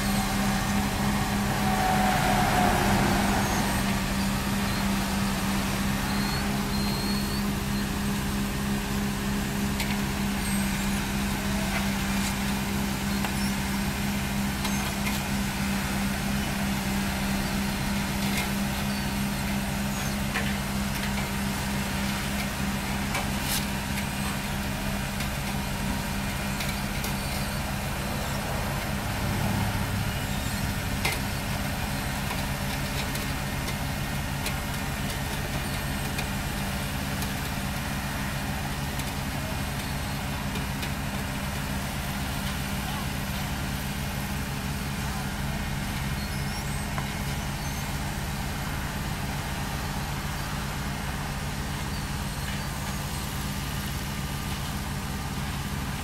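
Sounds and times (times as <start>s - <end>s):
heavy machinery engine humming: 0.0s - 56.0s.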